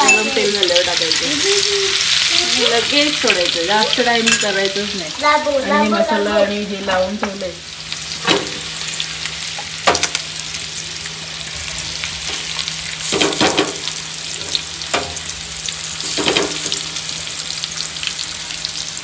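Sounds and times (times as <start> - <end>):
fish sizzling in hot oil: 0.0 - 5.5, 6.6 - 19.0.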